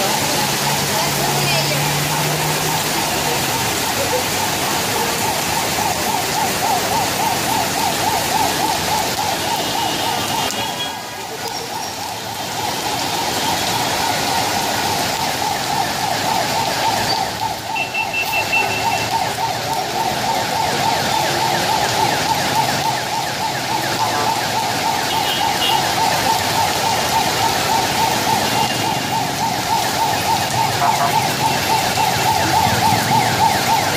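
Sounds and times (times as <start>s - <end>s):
heavy rain on a street: 0.0s - 33.9s.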